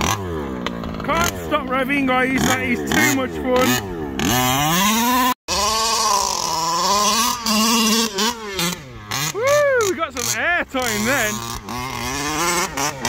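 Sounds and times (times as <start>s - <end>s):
small two-stroke engine revving: 0.0s - 13.0s.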